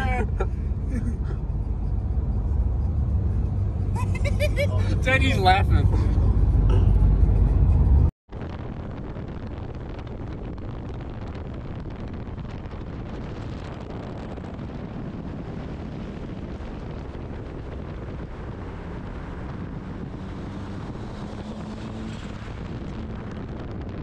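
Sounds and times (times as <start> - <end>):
car road rush: 0.0 - 24.0
low engine drone: 0.0 - 24.0
wind buffeting microphone: 0.0 - 24.0.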